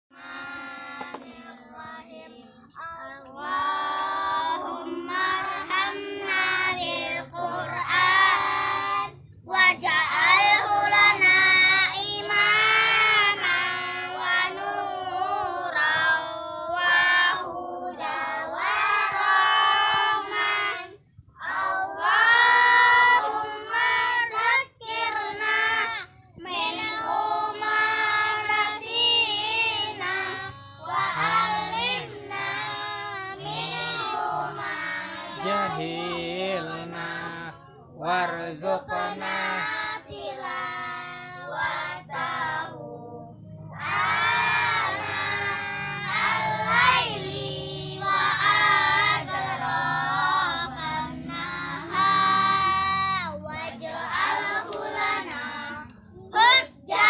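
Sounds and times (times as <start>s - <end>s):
children chanting together: 0.1s - 57.0s.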